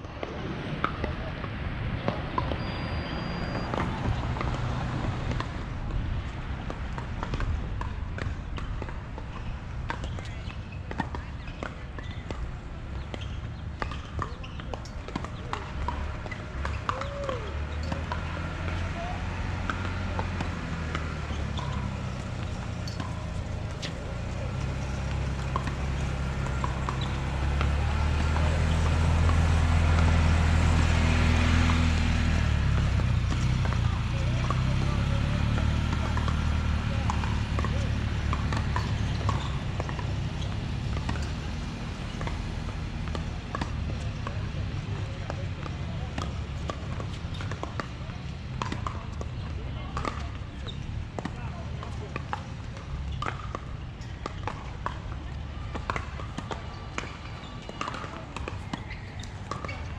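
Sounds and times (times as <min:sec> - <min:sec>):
sharp taps of ball game: 0:00.0 - 0:59.9.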